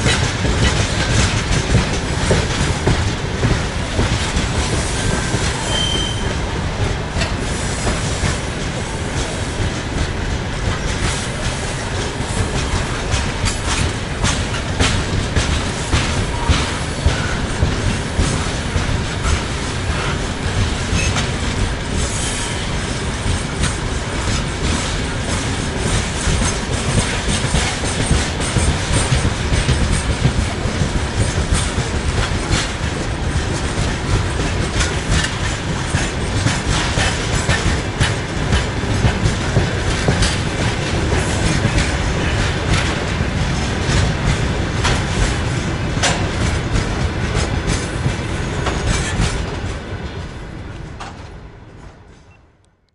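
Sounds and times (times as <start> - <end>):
train wheels clattering over rail joints: 0.0 - 51.4.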